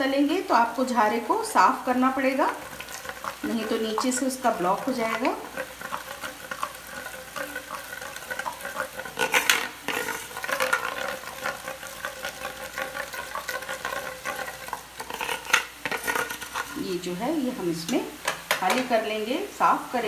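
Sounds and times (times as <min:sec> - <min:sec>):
batter frying in hot oil: 0:00.0 - 0:20.0
batter scraping across a ladle: 0:02.0 - 0:18.5.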